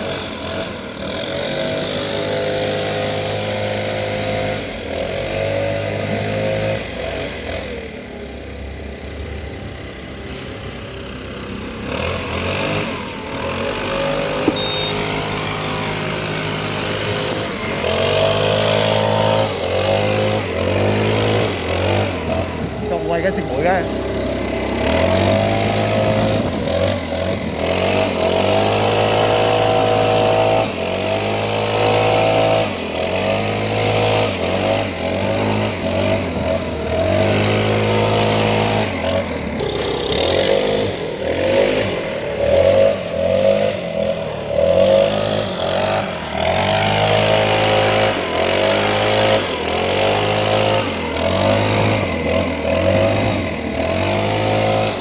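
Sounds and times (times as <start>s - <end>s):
leaf blower engine revving: 0.0s - 55.0s.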